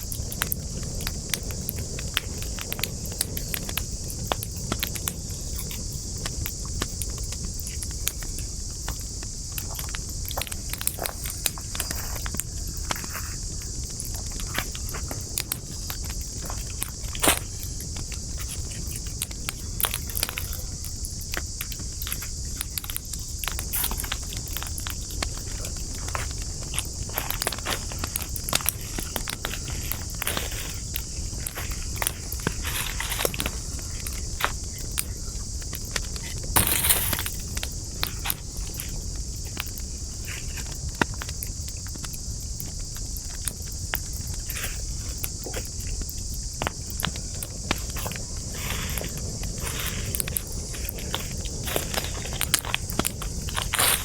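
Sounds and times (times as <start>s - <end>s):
campfire crackling: 0.0s - 54.0s
steady high hiss: 0.0s - 54.0s.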